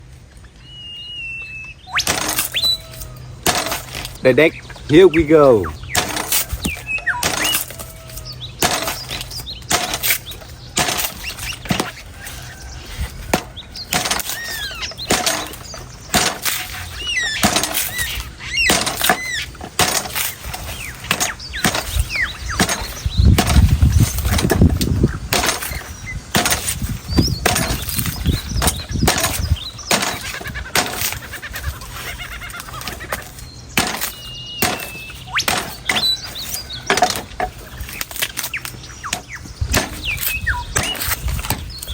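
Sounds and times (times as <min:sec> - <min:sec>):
birds chirping: 0:00.0 - 0:41.9
knife chopping coconut husk: 0:02.1 - 0:04.2, 0:06.0 - 0:31.3, 0:32.7 - 0:38.5, 0:39.1 - 0:41.9.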